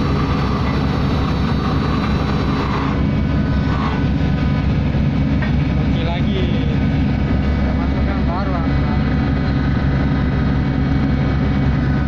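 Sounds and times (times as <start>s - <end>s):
ship engines droning: 0.0s - 12.0s.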